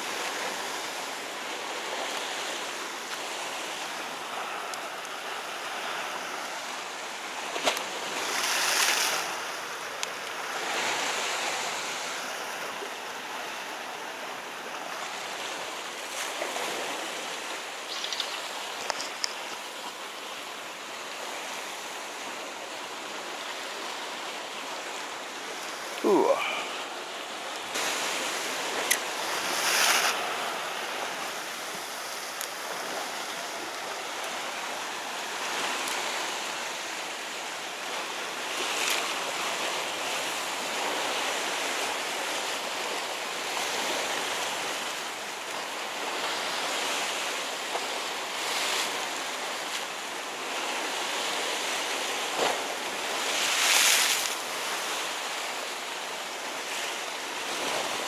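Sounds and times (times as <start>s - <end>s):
surf washing against rocks: 0.0s - 58.0s.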